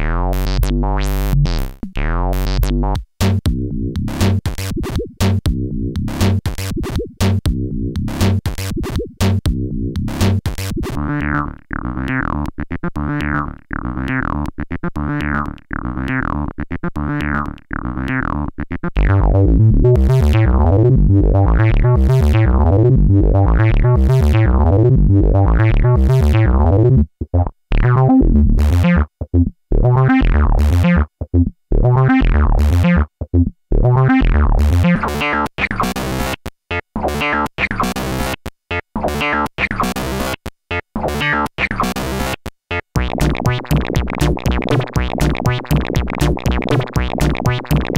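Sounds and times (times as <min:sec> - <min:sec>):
experimental synthesizer music: 0:00.0 - 0:47.9.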